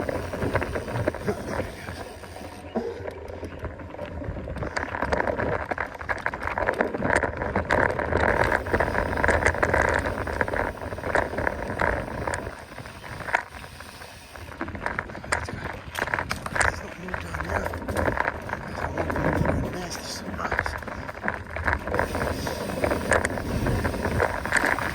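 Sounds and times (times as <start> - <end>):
bike tyres on rough ground: 0.0 - 24.9
rattling clicks from bike: 4.6 - 24.9.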